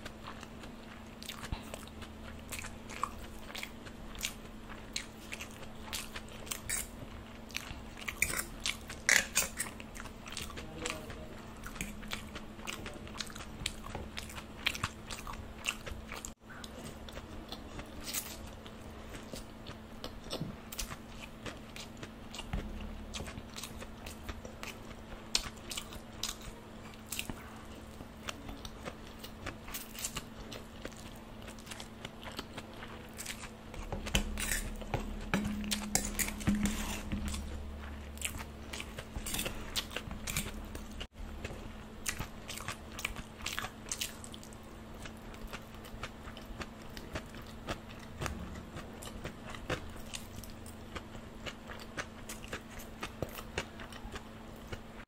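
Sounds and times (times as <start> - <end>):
close chewing of noodles: 0.0 - 55.0
faint steady hum: 0.0 - 55.0.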